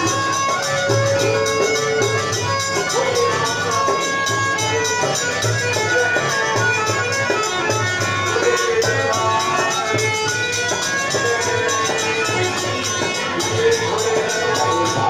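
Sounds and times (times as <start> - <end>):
dholak drum beat: 0.0 - 15.0
harmonium melody: 0.0 - 15.0
jingling percussion: 0.0 - 15.0.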